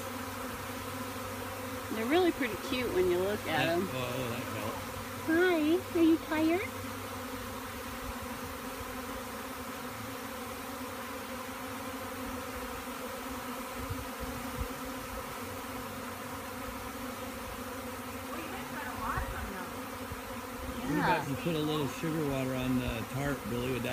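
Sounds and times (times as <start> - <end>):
swarm of bees buzzing: 0.0 - 23.9.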